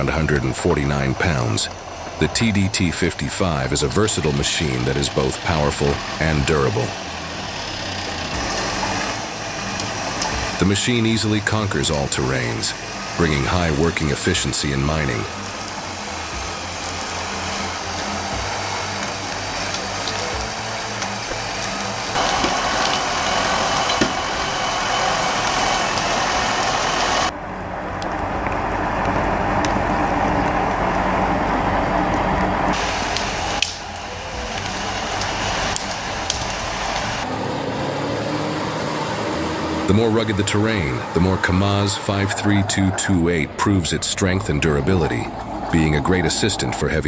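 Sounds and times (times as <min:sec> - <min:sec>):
heavy machinery engines running: 0:00.0 - 0:47.0.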